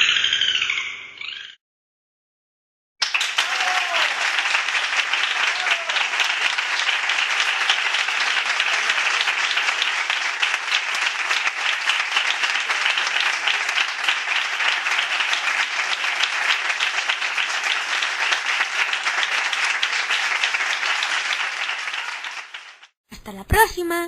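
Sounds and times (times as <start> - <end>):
crowd applauding: 3.0 - 23.0.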